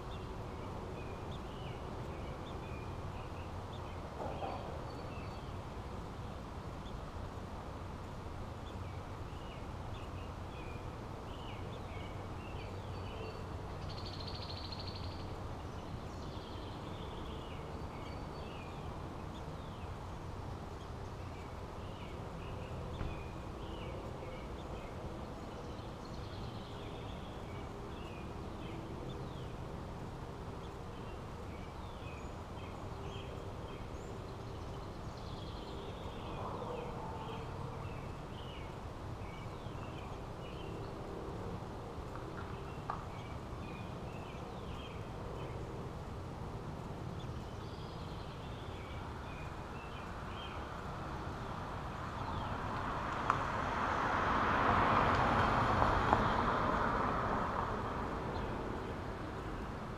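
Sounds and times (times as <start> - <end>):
small birds chirping: 0.0 - 53.6.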